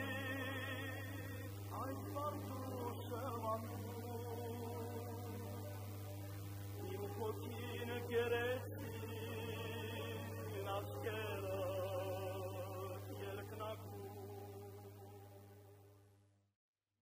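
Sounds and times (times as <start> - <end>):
person singing long notes: 0.0 - 15.1
low hum: 0.0 - 16.0.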